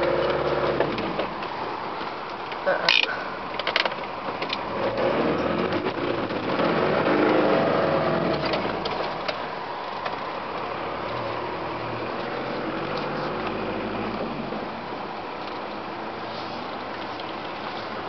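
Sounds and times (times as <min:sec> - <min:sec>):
vehicle engine from inside cabin: 0:00.0 - 0:18.0.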